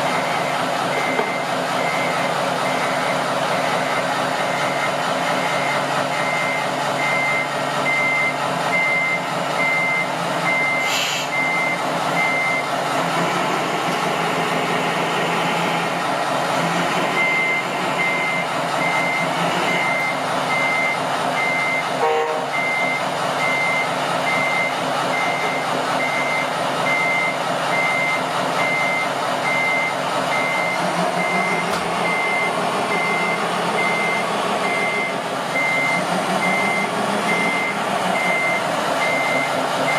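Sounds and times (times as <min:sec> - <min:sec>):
reversing beeper: 0:00.0 - 0:03.2, 0:03.9 - 0:12.7, 0:17.1 - 0:39.9.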